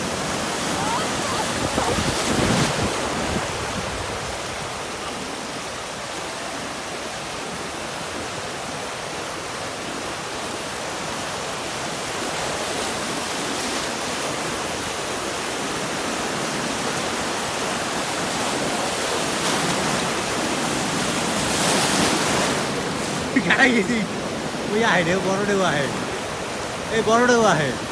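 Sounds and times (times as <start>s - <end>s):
waves breaking on a beach: 0.0s - 27.9s.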